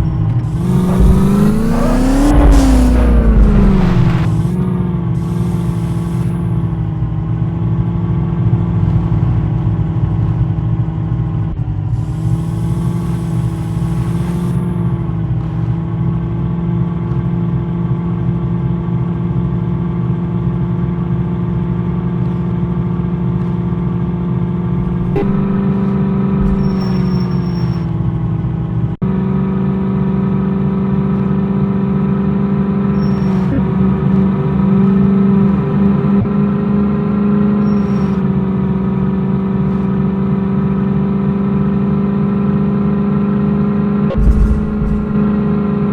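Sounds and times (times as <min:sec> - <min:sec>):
car engine running while driving: 0:00.0 - 0:45.9.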